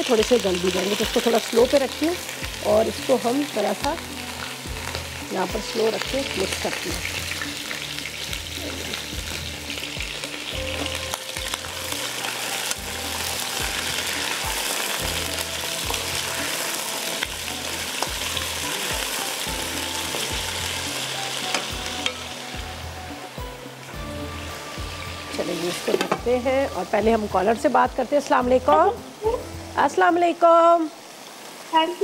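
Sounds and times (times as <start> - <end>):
potatoes sizzling in oil: 0.0 - 32.0.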